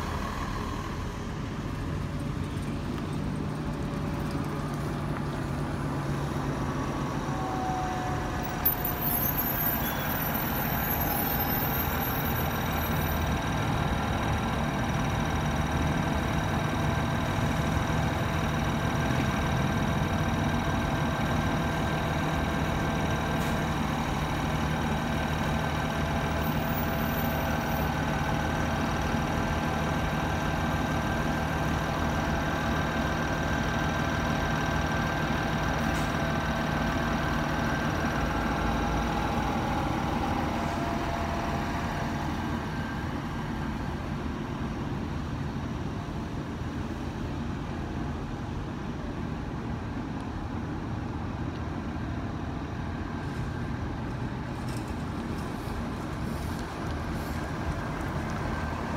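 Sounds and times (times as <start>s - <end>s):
diesel bus engine rumble: 0.0s - 58.9s.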